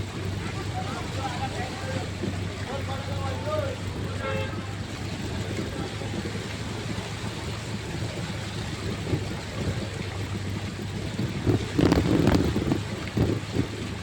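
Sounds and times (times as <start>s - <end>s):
motorcycle engine hum: 0.0s - 14.0s
rain and wet road rushing: 0.0s - 14.0s.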